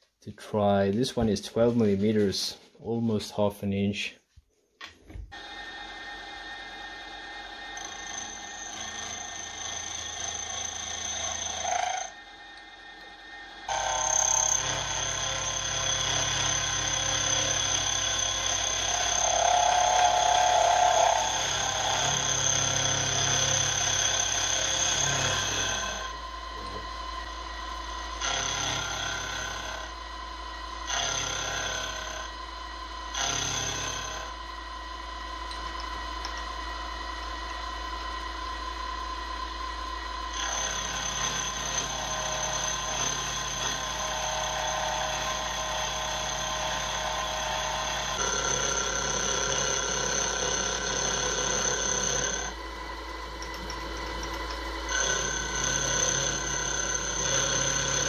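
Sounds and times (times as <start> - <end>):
milling machine whine: 5.3 - 58.0.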